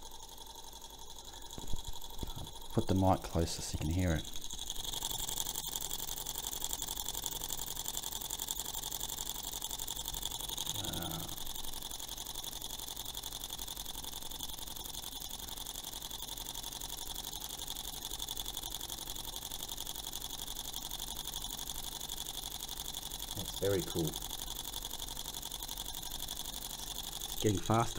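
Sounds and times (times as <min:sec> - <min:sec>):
small engine mechanical ticking: 0:00.0 - 0:27.9.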